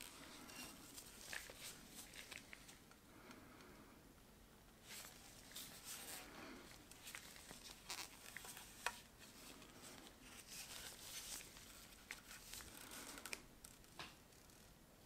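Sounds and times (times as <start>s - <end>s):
soft handling rustles: 0.0s - 3.0s, 4.8s - 14.0s.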